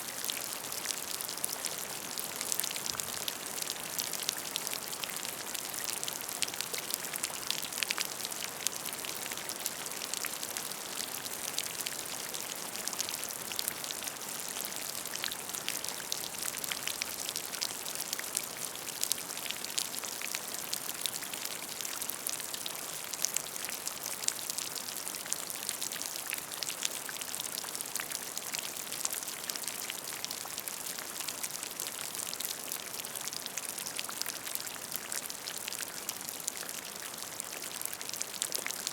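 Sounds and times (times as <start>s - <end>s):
rain falling on puddle: 0.0s - 38.9s.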